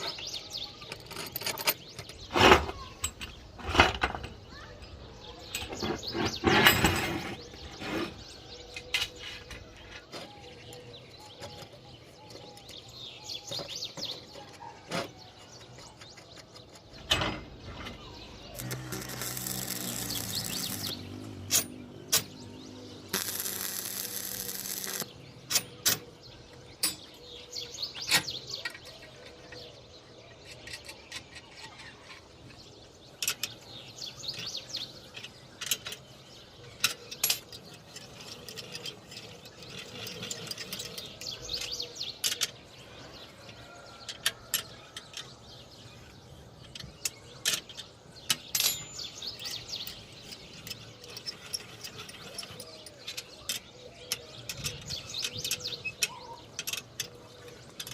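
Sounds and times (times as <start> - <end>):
metal tools clicking and knocking: 0.0 - 4.4, 5.4 - 29.7, 30.4 - 42.7, 43.5 - 45.7, 46.6 - 57.9
birds chirping: 0.0 - 57.9.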